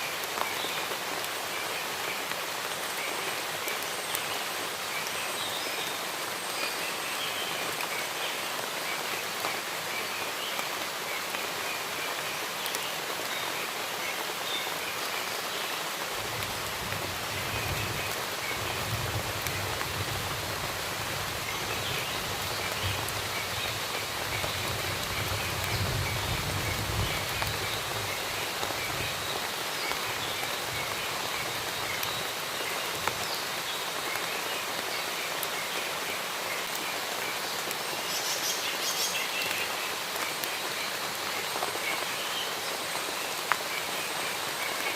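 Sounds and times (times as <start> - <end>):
steady rainfall: 0.0 - 44.9
small birds chirping: 0.1 - 44.9.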